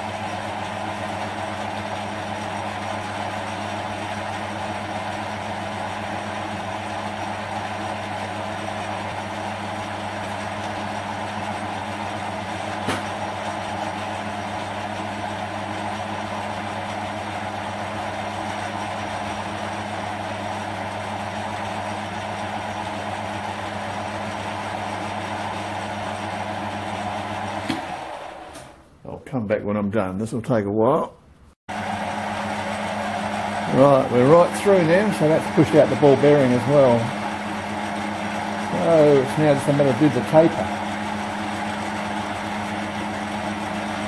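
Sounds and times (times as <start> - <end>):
lathe motor hum and drill whir: 0.0 - 28.8, 31.7 - 44.0.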